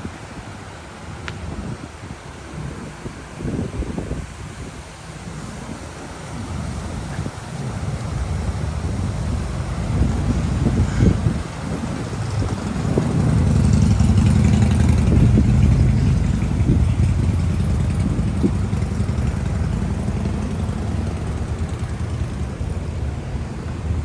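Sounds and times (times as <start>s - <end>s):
motor engine humming: 4.0s - 24.0s.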